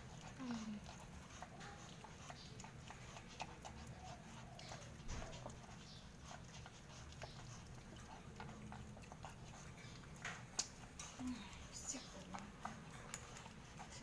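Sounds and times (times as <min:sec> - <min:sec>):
small clicks and rustles: 0:00.0 - 0:14.0.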